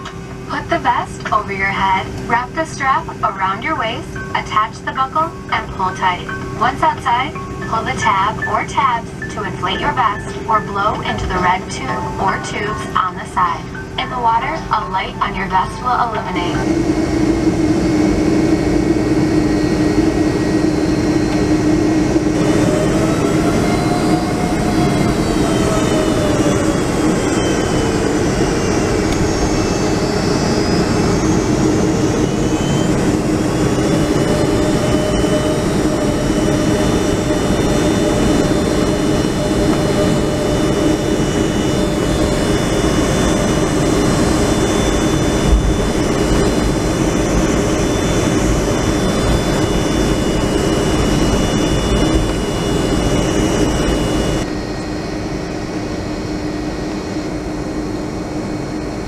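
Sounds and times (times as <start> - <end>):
jet engine rumble from cabin: 0.0 - 59.0
jet engine whine: 0.0 - 59.0.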